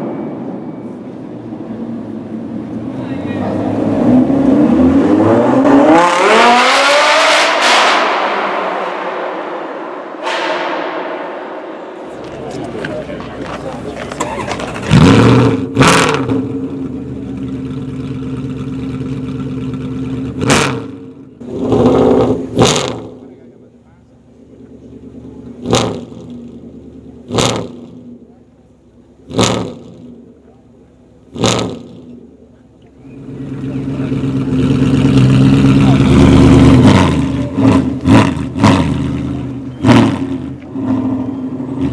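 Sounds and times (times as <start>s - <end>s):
car engine revving: 1.1s - 28.4s, 29.0s - 41.9s.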